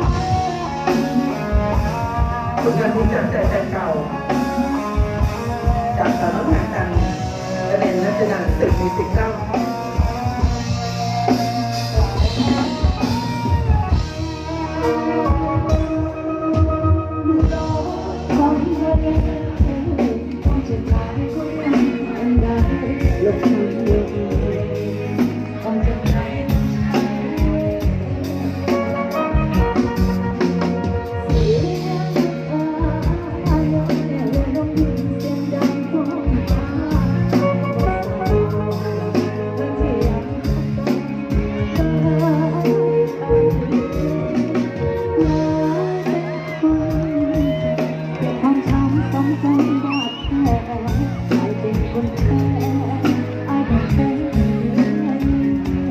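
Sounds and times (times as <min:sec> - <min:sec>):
live band playing: 0:00.0 - 0:55.9.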